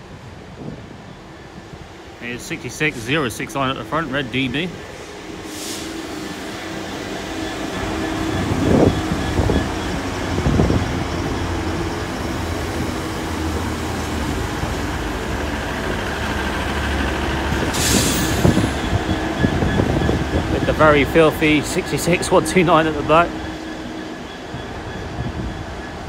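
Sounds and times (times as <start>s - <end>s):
diesel train drone and rumble: 0.0s - 26.0s.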